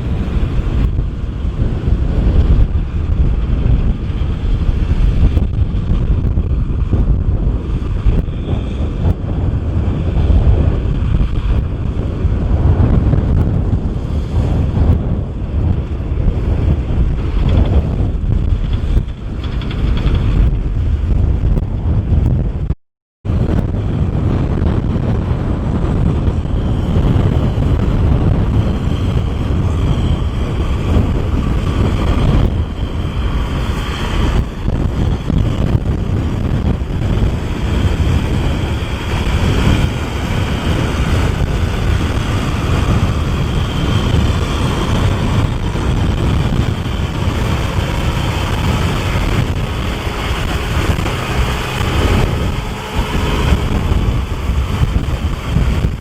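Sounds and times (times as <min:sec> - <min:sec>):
tractor diesel engine running: 0:00.0 - 0:22.4, 0:23.3 - 0:56.0.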